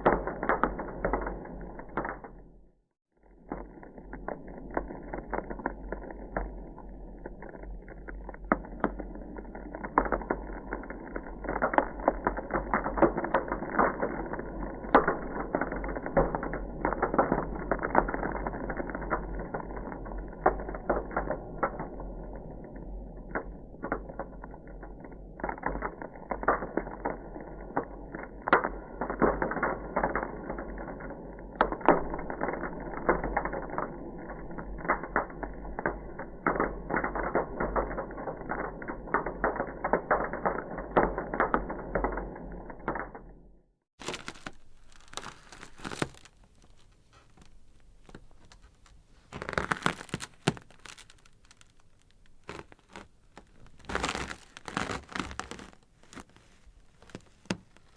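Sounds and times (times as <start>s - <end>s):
ice crackling and popping: 0.0s - 57.9s.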